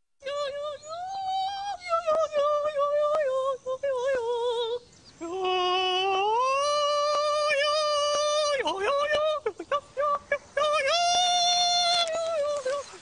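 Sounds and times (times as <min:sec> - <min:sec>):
high-pitched singing voice: 0:00.2 - 0:13.0.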